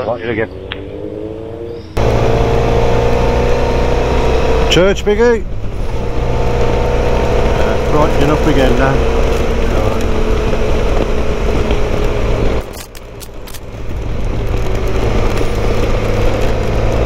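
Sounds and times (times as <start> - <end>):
heavy wind noise: 0.0 - 17.0
motorcycle engine hum: 0.0 - 17.0.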